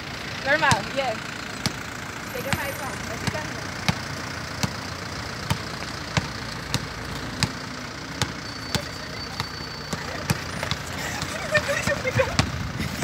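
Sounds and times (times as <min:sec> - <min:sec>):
basketball bouncing on pavement: 0:00.5 - 0:13.0.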